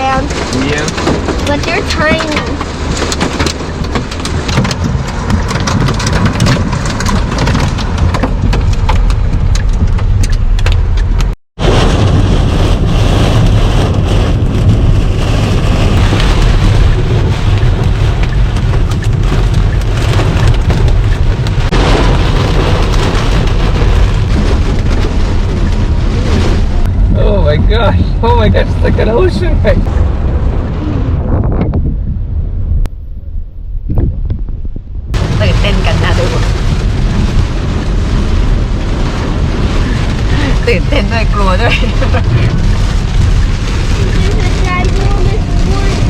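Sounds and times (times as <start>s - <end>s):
heavy rain on car: 0.0s - 31.4s, 35.1s - 46.0s
car rumbling on wet road: 0.0s - 46.0s.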